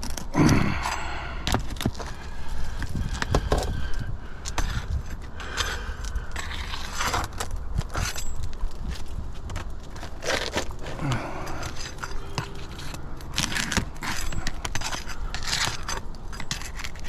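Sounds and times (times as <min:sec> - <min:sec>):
roof shingles scraping and crackling: 0:00.0 - 0:17.0.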